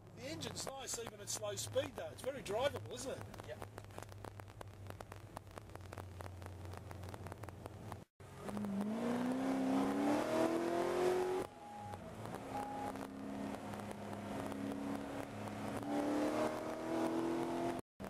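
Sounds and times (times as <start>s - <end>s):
car engine rumbling and accelerating: 0.0s - 17.8s.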